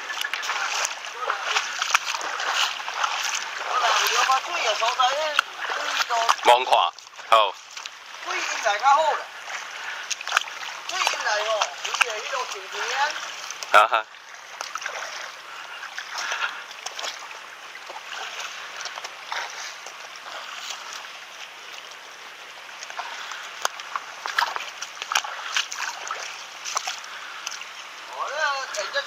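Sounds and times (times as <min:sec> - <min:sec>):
footsteps splashing in shallow water: 0:00.0 - 0:29.0
water washing: 0:00.0 - 0:29.0.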